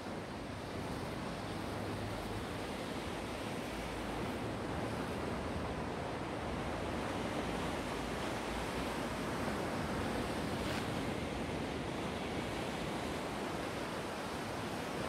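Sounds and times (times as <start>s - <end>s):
waves washing onto shore: 0.0s - 15.0s.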